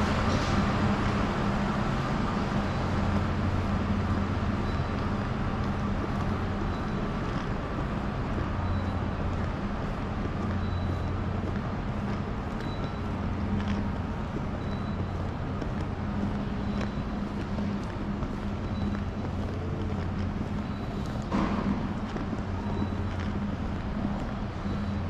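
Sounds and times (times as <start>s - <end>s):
airport terminal hall ambience: 0.0s - 25.0s.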